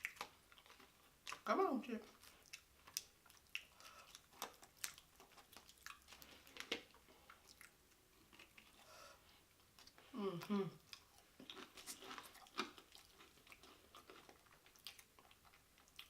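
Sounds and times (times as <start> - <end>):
chewing crunchy chips: 0.0 - 16.0
wet squishes of chewing: 0.0 - 16.0.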